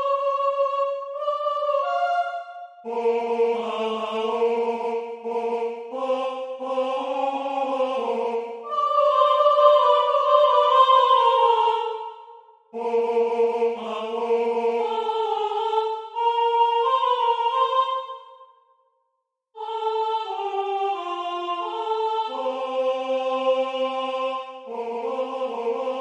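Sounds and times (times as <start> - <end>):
synthesized choir singing: 0.0 - 18.5, 19.6 - 26.0.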